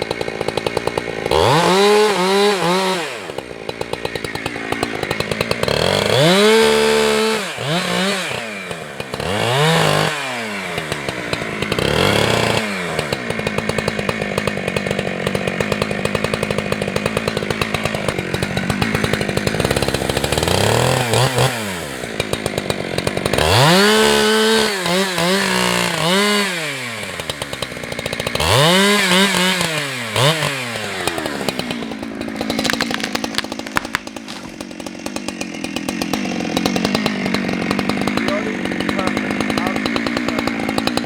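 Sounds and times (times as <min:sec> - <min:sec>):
chainsaw idling and revving: 0:00.0 - 0:41.0.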